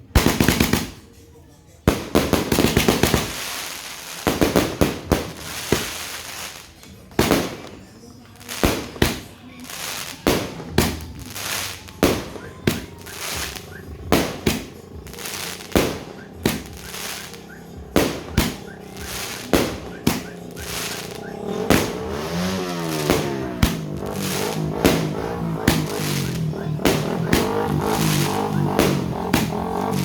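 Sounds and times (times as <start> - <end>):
fireworks bangs: 0.0 - 1.2, 1.9 - 30.0
fireworks crackling hiss: 0.0 - 30.0
music: 0.0 - 30.0.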